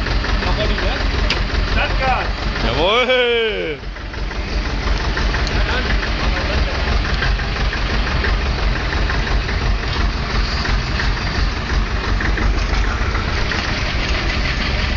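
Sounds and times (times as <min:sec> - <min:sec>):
tractor engine idling: 0:00.0 - 0:14.9.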